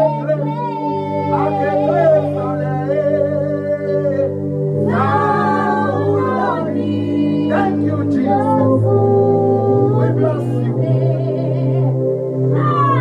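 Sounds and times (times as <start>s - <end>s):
person singing worship song: 0.0s - 13.0s
sustained chords: 0.0s - 13.0s.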